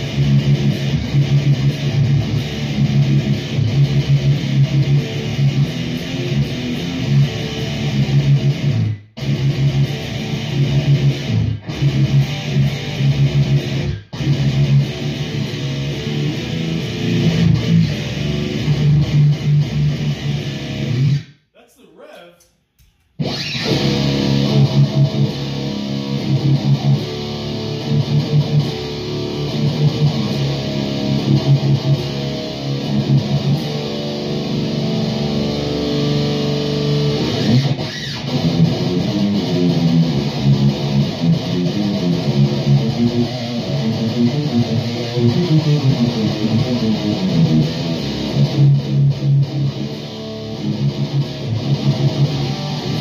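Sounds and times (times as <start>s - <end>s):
distorted electric guitar riffing: 0.0s - 22.5s, 23.2s - 53.0s.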